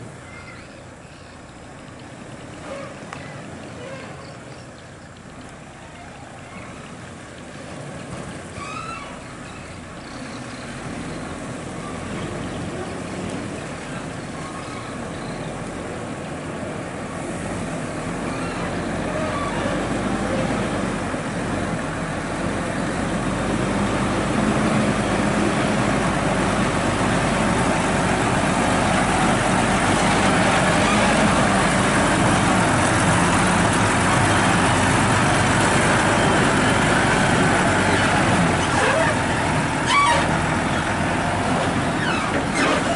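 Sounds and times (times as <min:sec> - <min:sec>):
heavy truck passing: 0:00.0 - 0:42.9.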